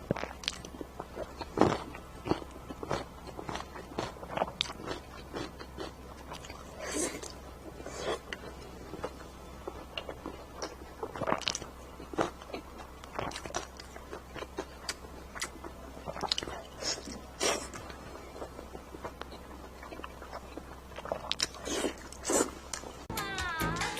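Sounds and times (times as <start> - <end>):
wet chewing and smacking: 0.0 - 22.9.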